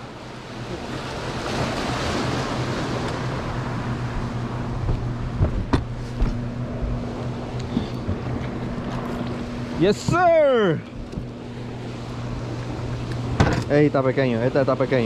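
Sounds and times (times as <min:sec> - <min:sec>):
churning water rushing: 0:00.0 - 0:15.0
low turbine hum: 0:00.0 - 0:15.0.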